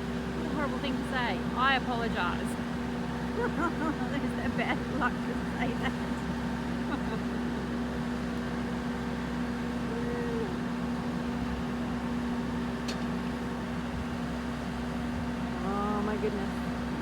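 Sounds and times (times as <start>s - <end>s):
boat-lift machinery humming: 0.0s - 17.0s.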